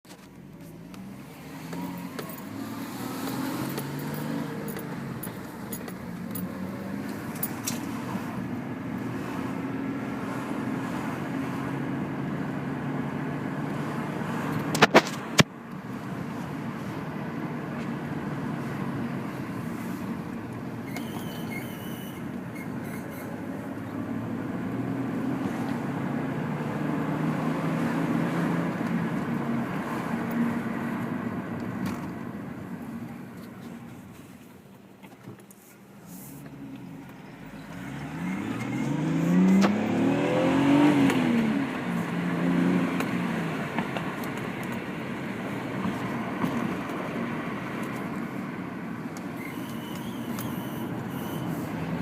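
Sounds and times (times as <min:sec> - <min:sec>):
road noise: 0:00.0 - 0:52.0
car engine: 0:00.1 - 0:52.0.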